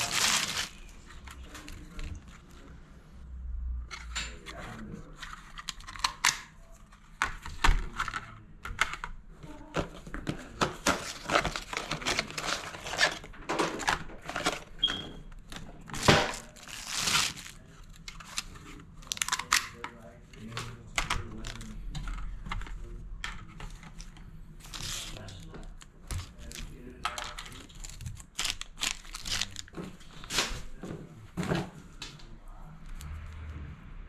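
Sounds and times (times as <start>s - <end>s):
crinkling and rustling of parts: 0.0s - 2.7s, 3.9s - 33.0s.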